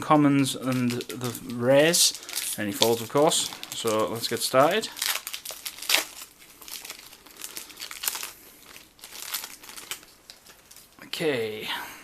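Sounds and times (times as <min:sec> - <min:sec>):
foil wrapper crinkling: 0:00.5 - 0:11.2.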